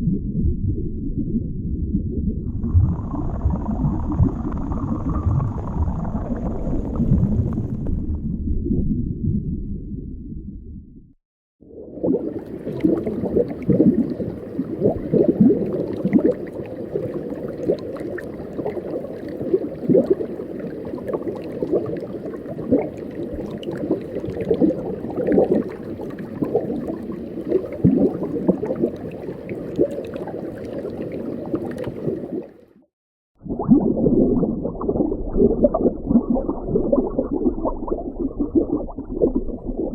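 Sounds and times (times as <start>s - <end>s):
bubbling underwater: 0.0s - 10.2s, 11.6s - 32.6s, 33.4s - 39.9s
underwater low rush: 0.0s - 39.9s.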